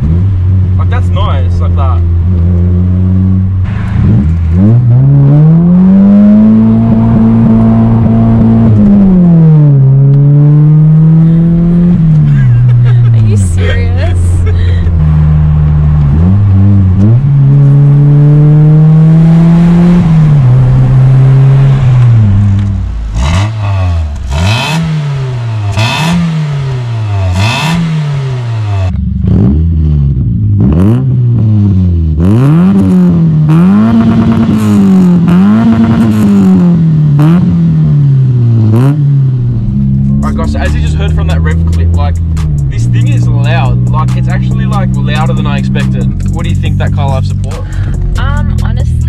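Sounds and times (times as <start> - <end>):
car engine accelerating: 0.0 - 49.0
car engine revving: 0.0 - 49.0.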